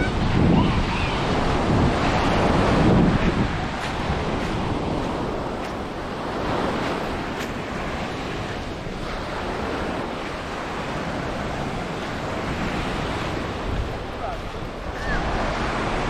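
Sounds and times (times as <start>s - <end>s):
sea surf washing onto beach: 0.0s - 16.0s
wind buffeting microphone: 0.0s - 16.0s.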